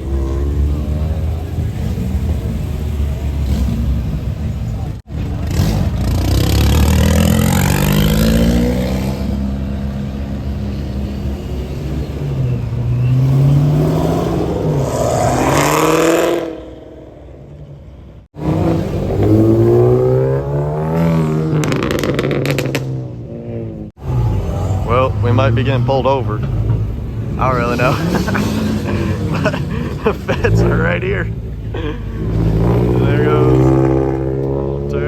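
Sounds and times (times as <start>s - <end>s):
cars accelerating hard: 0.0s - 17.2s, 18.3s - 35.0s.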